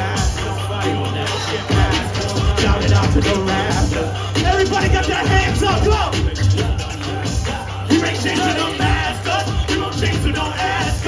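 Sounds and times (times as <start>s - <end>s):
hip hop beat over pa: 0.0s - 11.0s.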